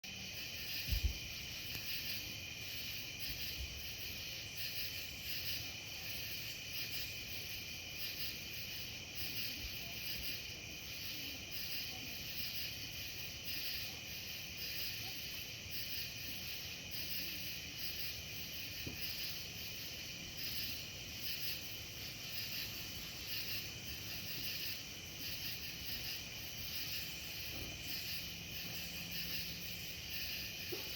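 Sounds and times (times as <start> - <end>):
insects chirping: 0.0 - 30.9.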